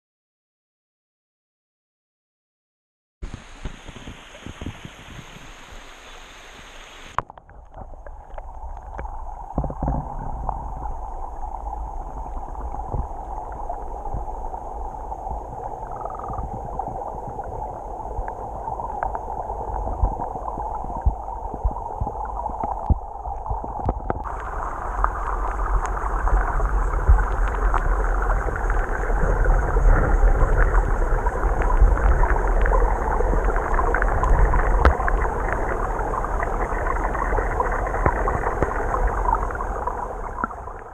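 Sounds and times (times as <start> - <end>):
underwater stream rushing: 3.2 - 40.9
small crackles and ticks: 3.3 - 40.8
low rumble: 7.7 - 40.9.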